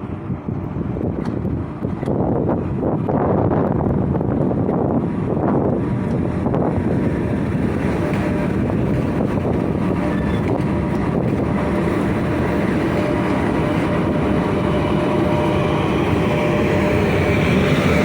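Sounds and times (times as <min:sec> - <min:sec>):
freight train rumbling by: 0:00.0 - 0:18.0.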